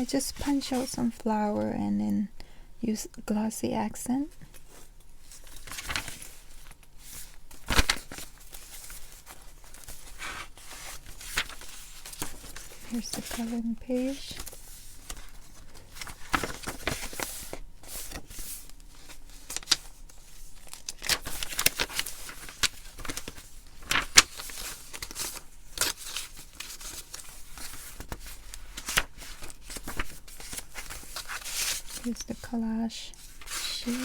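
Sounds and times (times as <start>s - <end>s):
paper pages rustling: 4.4s - 34.0s.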